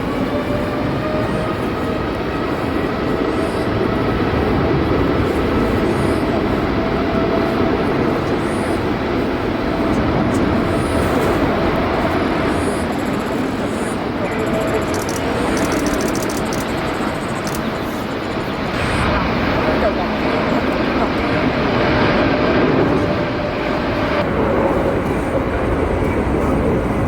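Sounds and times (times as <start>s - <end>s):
jet engine roar: 0.0s - 27.0s.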